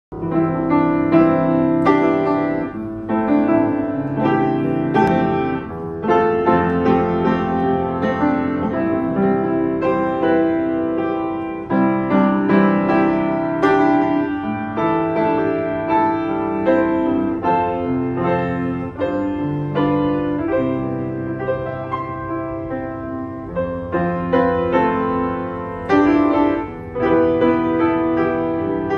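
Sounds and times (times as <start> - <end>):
upright piano playing: 0.1 - 28.9.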